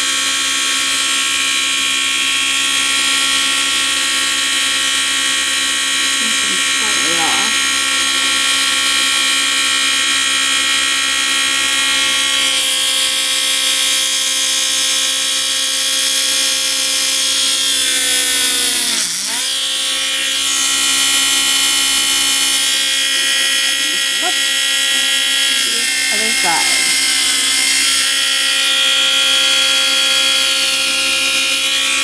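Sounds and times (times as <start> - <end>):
rotary tool drilling whine: 0.0 - 32.0.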